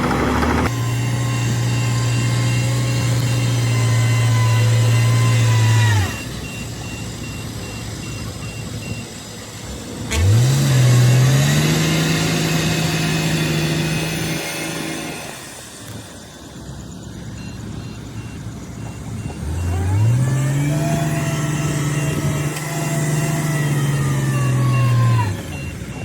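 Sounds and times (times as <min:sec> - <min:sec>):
bulldozer diesel engine revving: 0:00.0 - 0:26.0.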